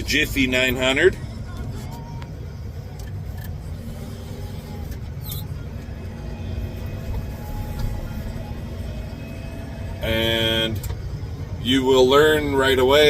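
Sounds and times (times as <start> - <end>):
tractor engine rumbling: 0.0 - 13.0.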